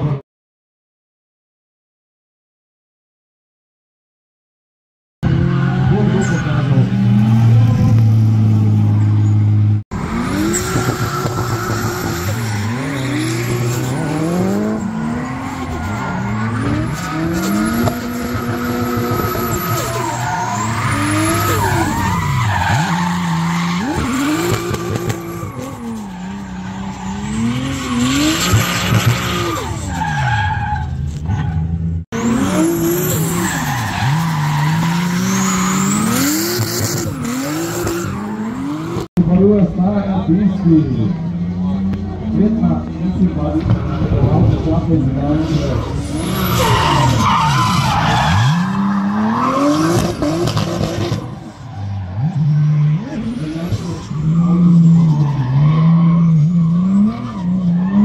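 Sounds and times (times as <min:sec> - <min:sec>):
car engine revving: 0:05.2 - 0:39.1, 0:39.7 - 0:58.0
tyres skidding and squealing: 0:05.2 - 0:58.0.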